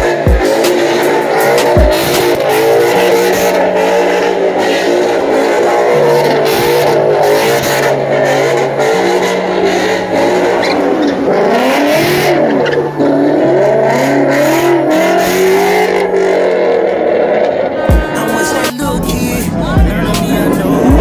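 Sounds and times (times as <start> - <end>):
car engine revving: 0.0 - 21.0
tyres screeching: 0.0 - 21.0.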